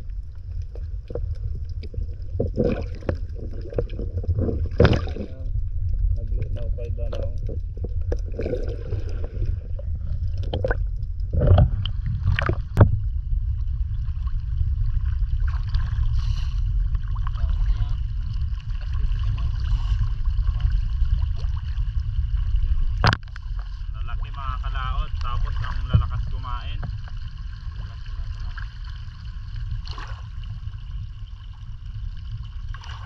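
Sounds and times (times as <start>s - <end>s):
muffled water and wind rumble: 0.0s - 33.0s.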